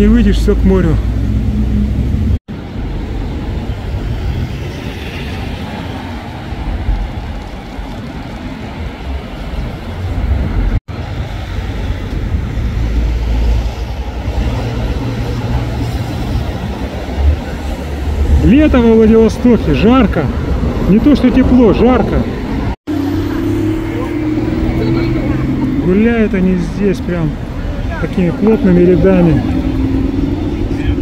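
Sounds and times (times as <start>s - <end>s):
passing cars: 0.0s - 31.0s.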